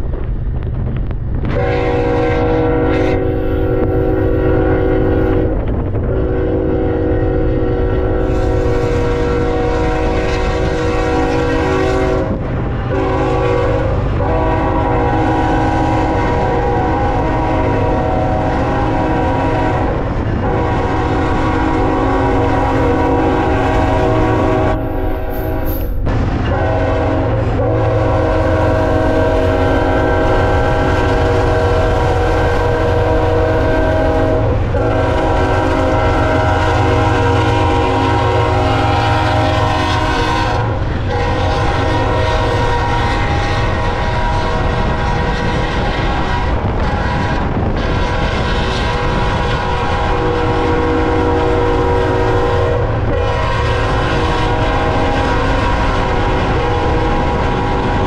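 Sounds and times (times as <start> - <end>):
train rumble: 0.0 - 58.0
locomotive air horn blasts: 1.4 - 58.0.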